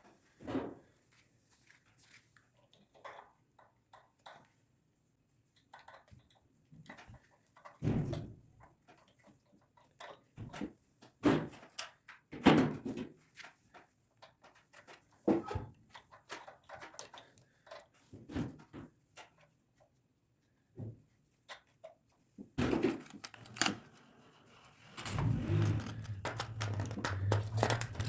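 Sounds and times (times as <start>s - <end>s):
clatter of small parts and tools: 1.7s - 4.6s, 5.6s - 20.0s, 21.4s - 28.0s.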